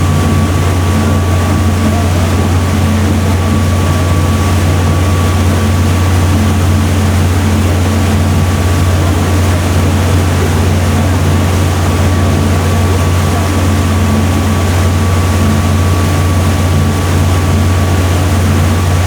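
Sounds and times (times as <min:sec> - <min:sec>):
boat engine humming: 0:00.0 - 0:19.0
thin steady whine: 0:00.0 - 0:19.0.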